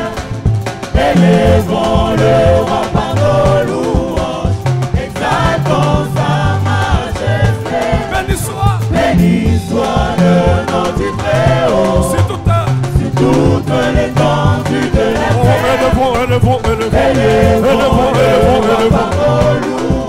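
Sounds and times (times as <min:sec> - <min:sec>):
band with bass line: 0:00.0 - 0:20.0
choir and singers: 0:00.0 - 0:20.0.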